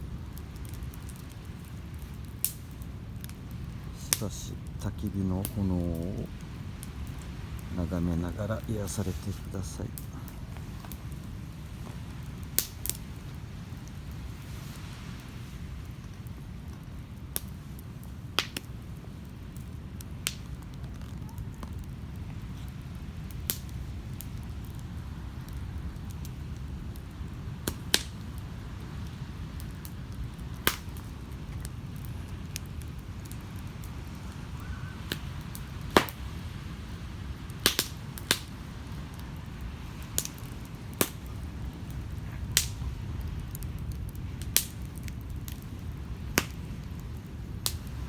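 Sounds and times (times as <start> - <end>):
campfire crackling and popping: 0.0 - 48.0
surf rumbling: 0.0 - 48.0.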